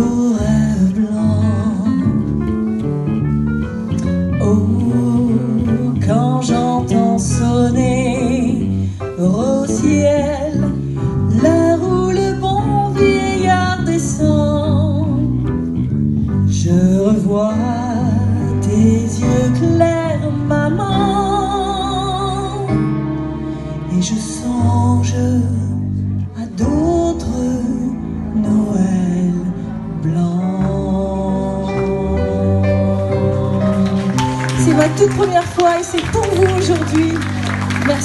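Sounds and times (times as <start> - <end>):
woman singing into microphone: 0.0 - 2.1, 4.4 - 15.3, 16.6 - 22.8, 26.4 - 38.0
live band with bass guitar: 0.0 - 38.0.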